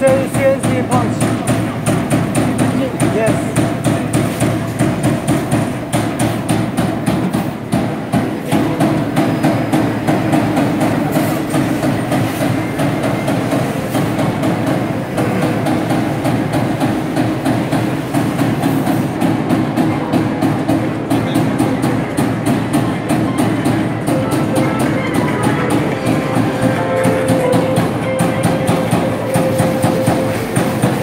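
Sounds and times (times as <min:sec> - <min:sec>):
punch press punching sheet metal: 0:00.0 - 0:31.0.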